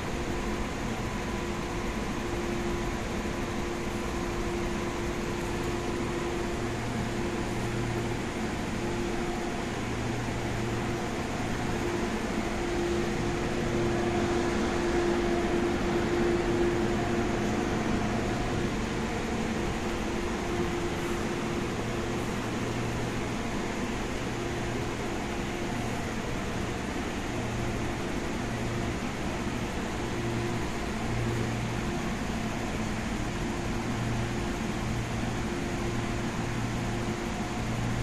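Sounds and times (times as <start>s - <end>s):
train air-conditioning hum: 0.0s - 38.0s.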